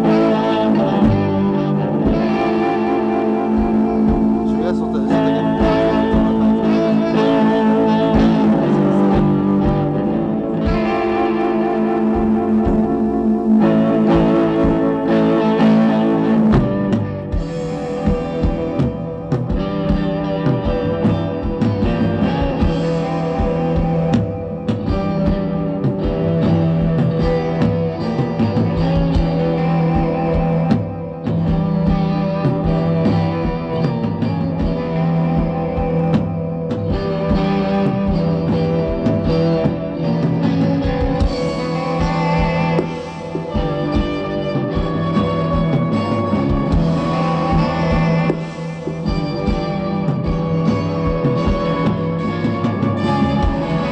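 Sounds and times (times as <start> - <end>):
electric guitar chords: 0.0 - 53.9.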